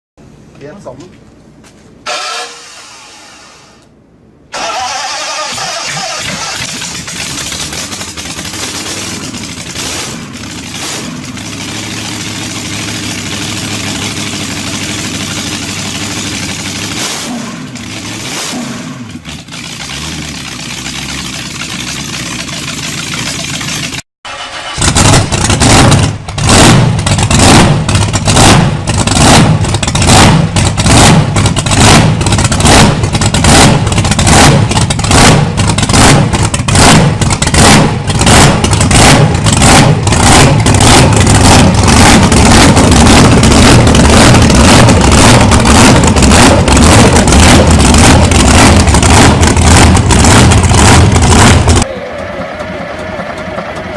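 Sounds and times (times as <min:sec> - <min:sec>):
large engine revving: 0:04.6 - 0:53.9
engine pounding slowly: 0:06.4 - 0:24.0, 0:24.8 - 0:53.9.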